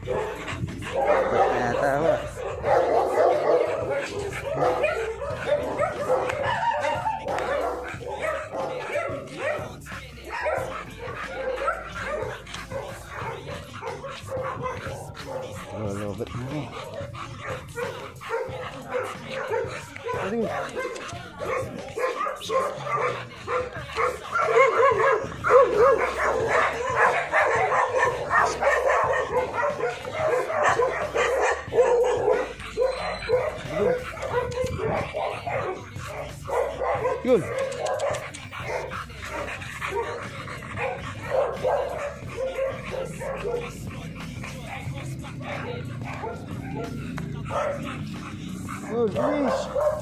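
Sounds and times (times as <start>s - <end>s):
dog barking and yipping: 0.0s - 50.0s.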